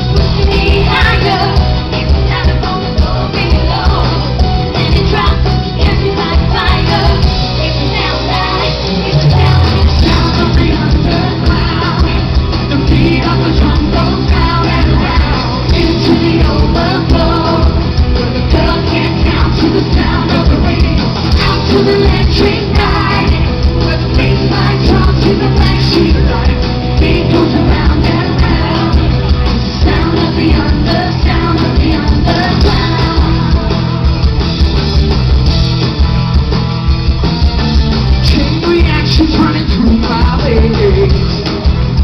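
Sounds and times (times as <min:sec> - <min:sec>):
live pop-rock music with singing: 0:00.0 - 0:42.0.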